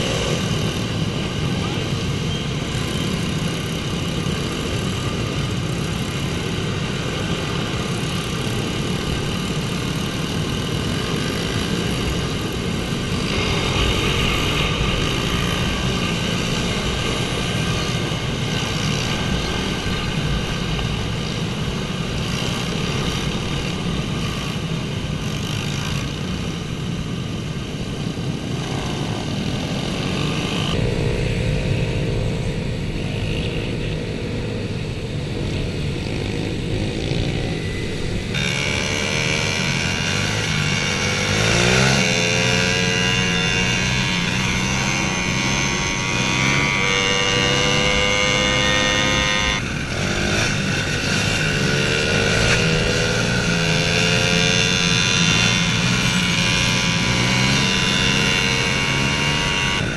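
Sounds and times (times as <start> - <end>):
small motorbike engines buzzing: 0.0 - 59.9.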